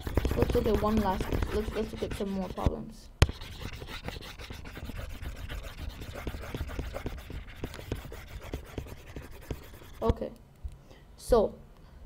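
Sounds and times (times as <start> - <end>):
stylus scratching on drawing tablet: 0.0 - 10.3.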